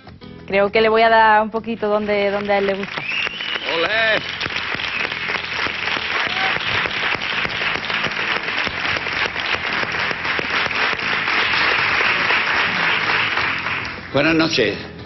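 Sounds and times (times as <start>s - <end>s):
audience applauding: 1.9s - 14.6s.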